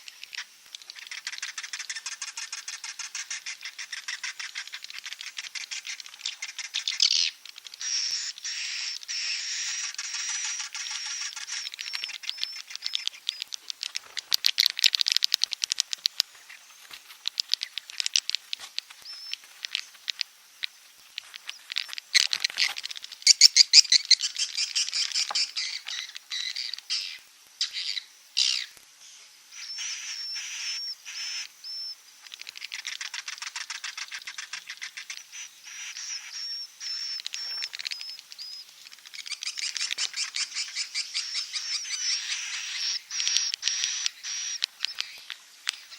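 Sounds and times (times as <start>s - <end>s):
swiftlet chattering trills and chirps: 0.0s - 16.7s, 23.2s - 28.7s, 29.6s - 45.9s.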